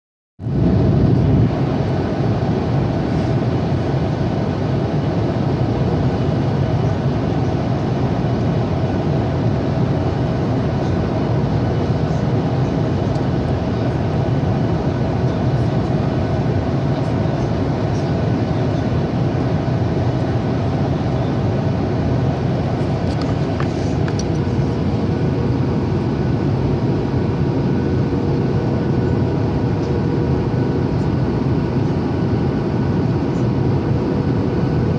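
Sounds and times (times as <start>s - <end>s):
jet engine cabin drone: 0.4s - 34.9s.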